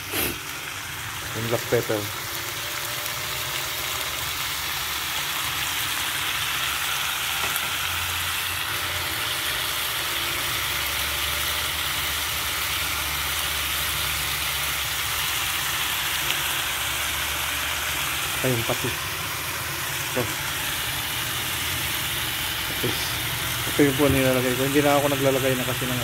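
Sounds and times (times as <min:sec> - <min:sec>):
chicken sizzling in hot oil: 0:00.0 - 0:26.0.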